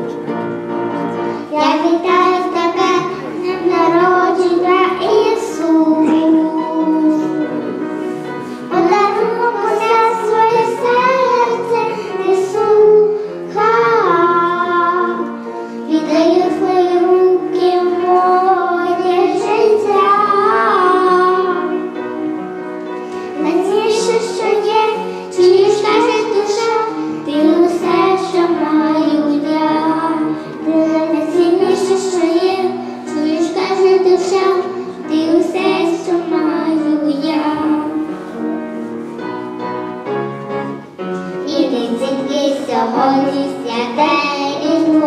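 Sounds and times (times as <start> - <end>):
children singing: 0.0 - 15.4, 16.0 - 22.0, 23.4 - 38.1, 41.4 - 45.0
musical accompaniment: 0.0 - 45.0.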